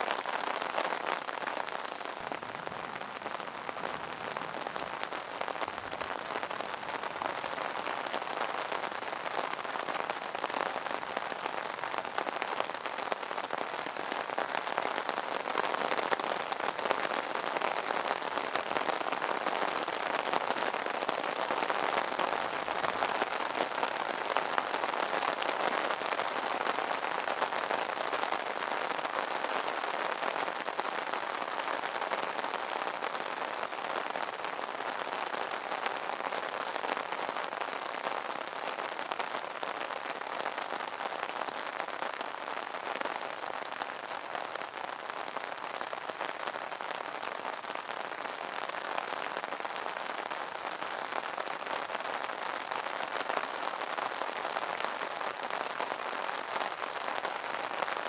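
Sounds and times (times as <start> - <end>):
rain pattering on an umbrella: 0.0 - 58.0.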